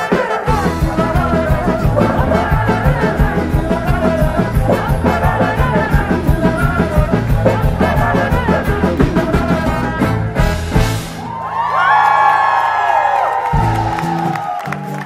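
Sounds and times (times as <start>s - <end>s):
rock band playing: 0.0s - 11.6s, 13.4s - 15.0s.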